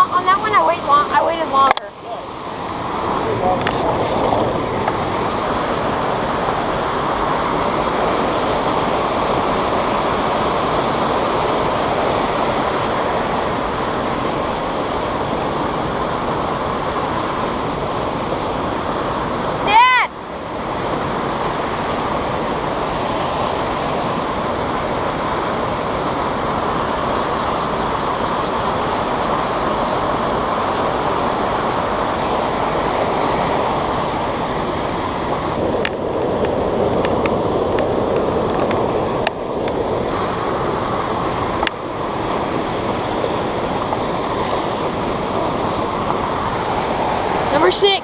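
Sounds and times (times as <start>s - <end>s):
creek rushing over rocks: 0.0s - 48.0s.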